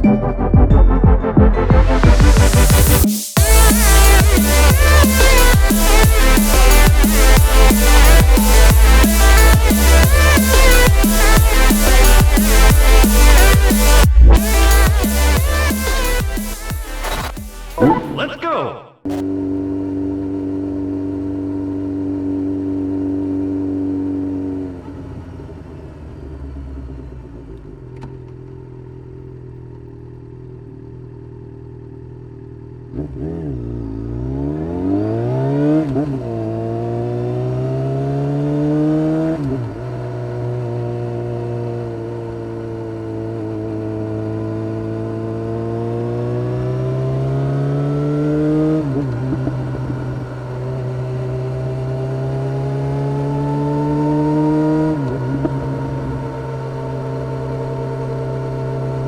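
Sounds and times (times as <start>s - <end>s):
motorcycle engine revving: 2.0s - 17.9s, 19.1s - 59.0s.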